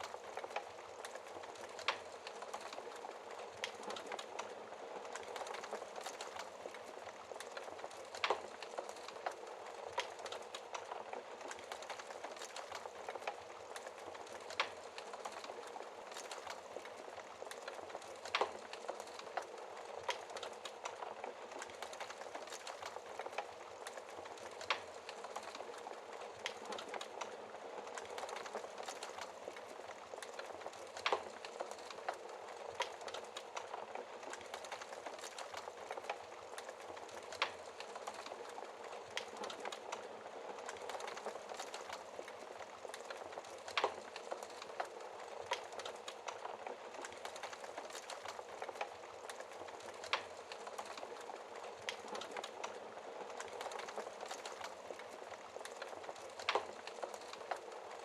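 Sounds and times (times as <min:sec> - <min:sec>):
fire crackling in fireplace: 0:00.0 - 0:58.0
fire popping: 0:00.0 - 0:58.0.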